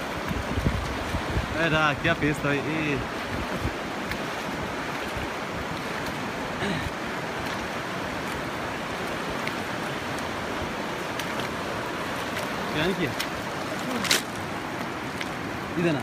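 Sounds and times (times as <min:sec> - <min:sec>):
river rushing over rapids: 0:00.0 - 0:16.0.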